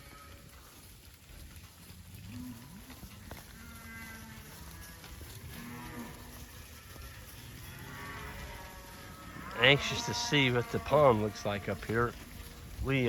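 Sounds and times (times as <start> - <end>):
cattle mooing: 2.2 - 13.0.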